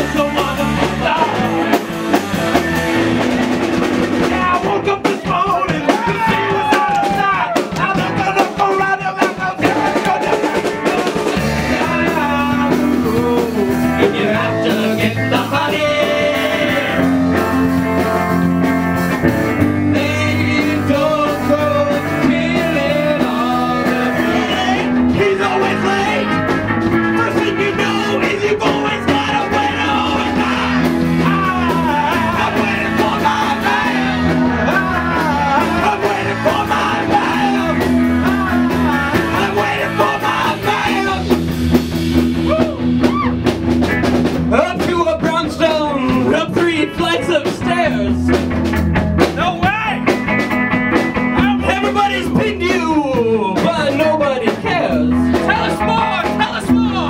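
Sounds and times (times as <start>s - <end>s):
man singing: 0.0s - 2.2s, 4.1s - 18.3s, 19.3s - 41.6s, 44.5s - 48.4s, 49.2s - 50.2s, 51.2s - 57.0s
drums: 0.0s - 57.0s
guitar: 0.0s - 57.0s.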